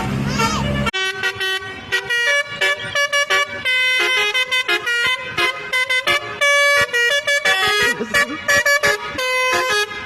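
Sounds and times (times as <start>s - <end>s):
musical bus horn melody: 0.2s - 10.0s.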